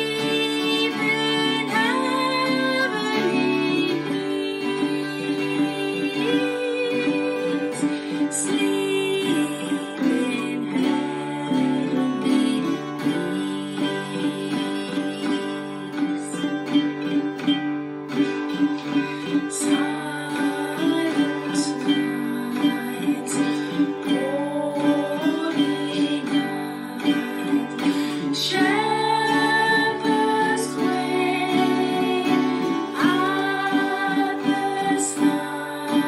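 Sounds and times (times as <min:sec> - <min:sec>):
women singing a carol: 0:00.0 - 0:16.7, 0:19.2 - 0:36.0
strummed stringed instrument: 0:00.0 - 0:36.0.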